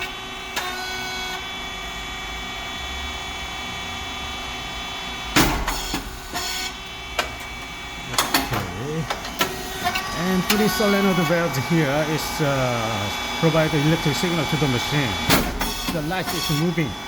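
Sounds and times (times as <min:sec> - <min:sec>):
machine electrical hum: 0:00.0 - 0:17.0.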